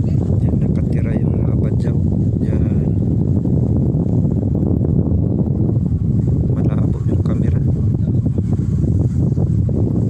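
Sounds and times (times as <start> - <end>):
boat engine running: 0.0 - 10.0
wind on microphone: 0.0 - 10.0.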